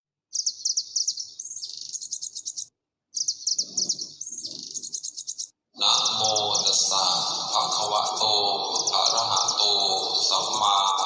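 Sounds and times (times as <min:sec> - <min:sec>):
songbird chirps and trills: 0:00.3 - 0:11.0.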